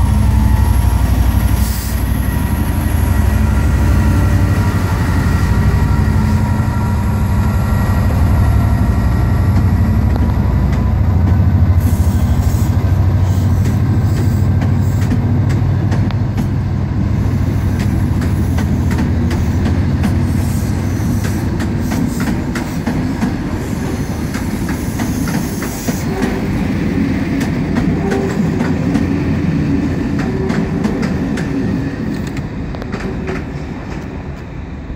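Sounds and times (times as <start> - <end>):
diesel locomotive drone: 0.0 - 34.9
train wheels clicking over rail joints: 1.4 - 34.6.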